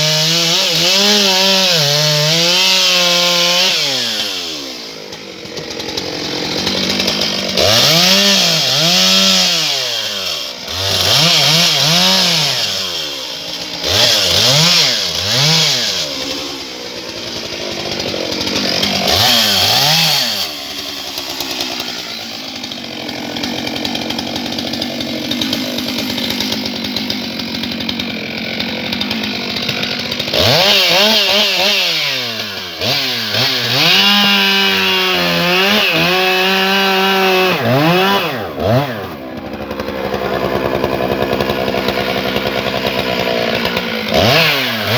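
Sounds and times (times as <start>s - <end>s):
chainsaw revving and cutting logs: 0.0s - 44.9s.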